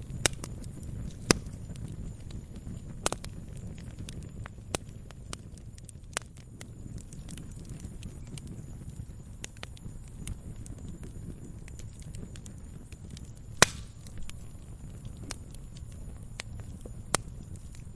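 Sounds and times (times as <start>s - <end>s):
campfire crackling and popping: 0.0s - 17.9s
low rumble of burning: 0.0s - 17.9s.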